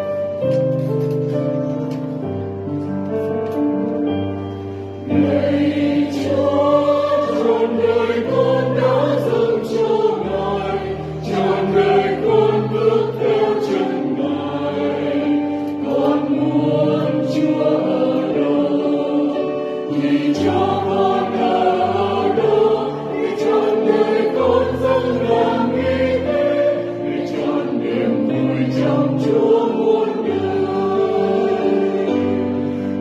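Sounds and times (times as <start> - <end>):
keyboard accompaniment: 0.0 - 33.0
choir singing a hymn: 4.6 - 33.0.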